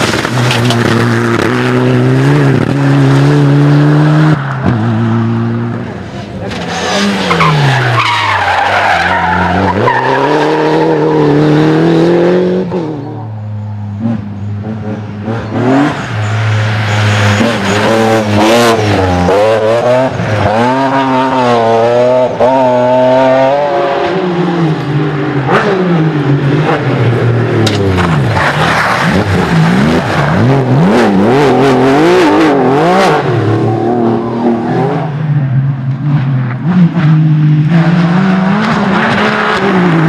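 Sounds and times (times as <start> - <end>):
rally car engines revving: 0.0 - 40.0.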